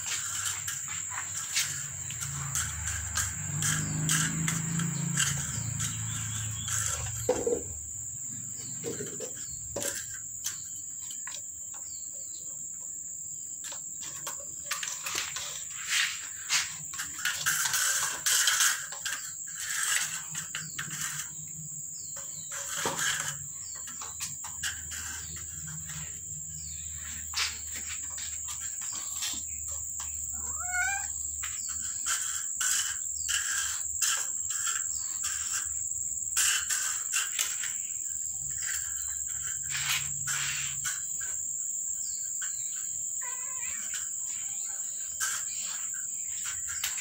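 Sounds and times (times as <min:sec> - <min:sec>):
high-pitched insect drone: 0:00.0 - 0:12.5, 0:13.6 - 0:47.0.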